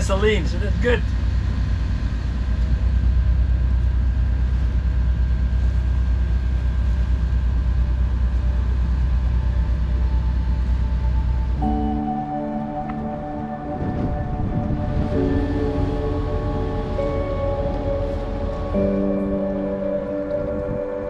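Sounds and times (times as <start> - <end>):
diesel engine drone: 0.0 - 21.0.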